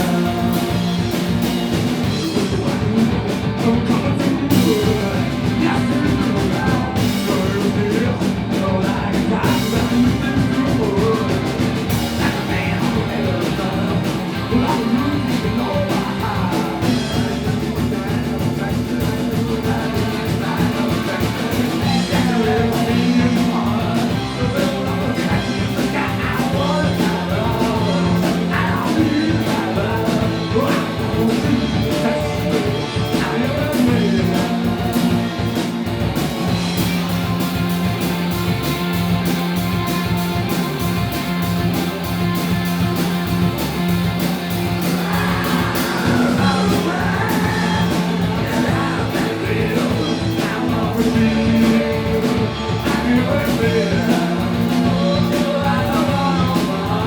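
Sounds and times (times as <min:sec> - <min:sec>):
live rock band playing: 0:00.0 - 0:57.0
steady drum beat: 0:00.0 - 0:57.0.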